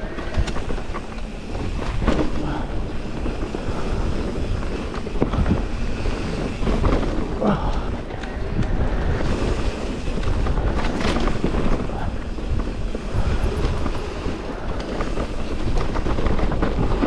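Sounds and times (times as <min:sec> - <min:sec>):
bike rattling and knocking: 0:00.0 - 0:17.0
tyres rumbling over dirt: 0:00.0 - 0:17.0
wind buffeting microphone: 0:00.0 - 0:17.0.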